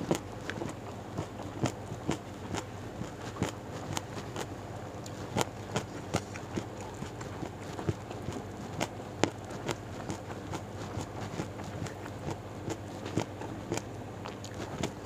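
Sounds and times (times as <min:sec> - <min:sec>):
chewing food with crunches: 0:00.0 - 0:15.0.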